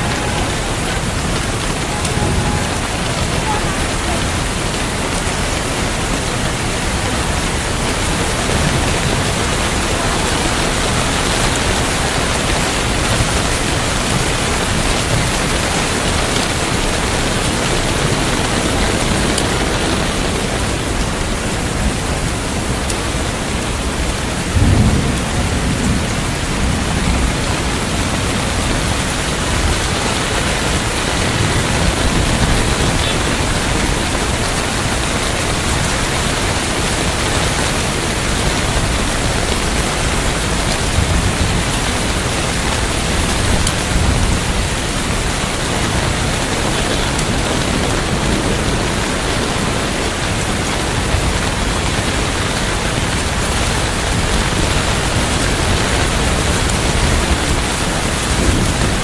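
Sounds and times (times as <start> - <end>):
heavy rain: 0.0 - 59.0
thunder rumble: 0.0 - 59.0.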